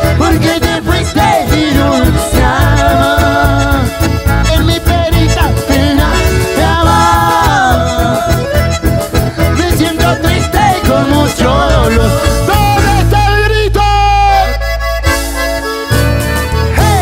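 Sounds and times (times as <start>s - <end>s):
accordion and bandoneons: 0.0s - 17.0s
bass: 0.0s - 17.0s
keyboard: 0.0s - 17.0s.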